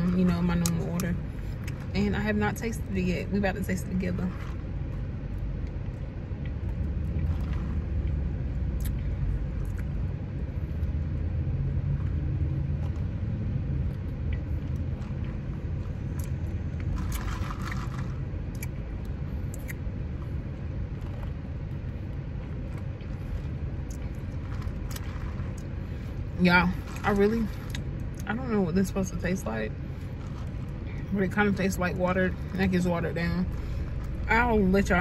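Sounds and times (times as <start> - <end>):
car cabin low rumble: 0.0 - 35.0.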